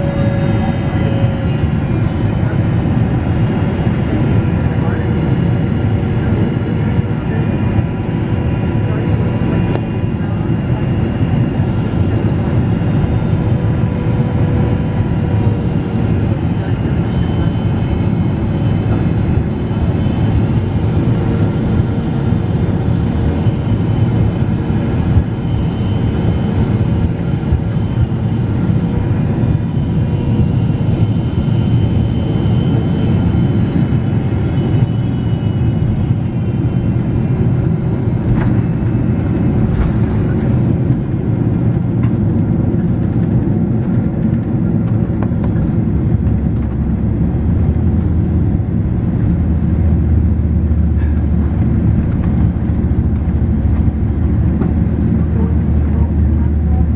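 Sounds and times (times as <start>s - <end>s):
airplane cabin roar: 0.0s - 56.9s.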